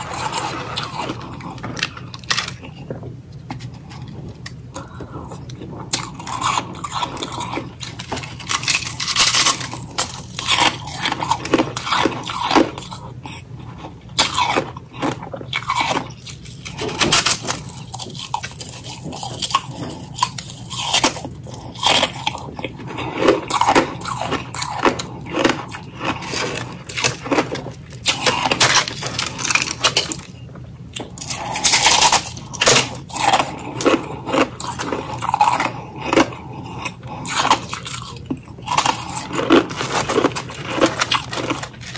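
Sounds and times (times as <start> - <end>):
chewing and crunching ice: 0.0 - 41.9.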